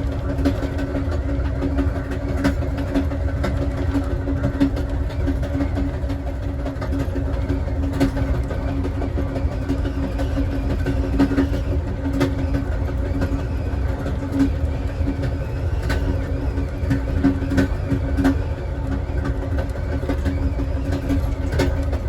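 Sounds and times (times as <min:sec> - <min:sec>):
sharp track clicks: 0:00.0 - 0:22.0
train car rolling on track: 0:00.0 - 0:22.0.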